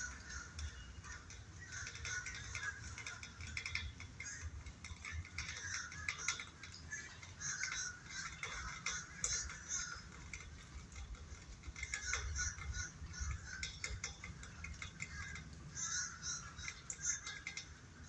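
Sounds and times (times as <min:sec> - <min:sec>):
birds calling: 0:00.0 - 0:18.0
faint clicks: 0:00.0 - 0:18.0.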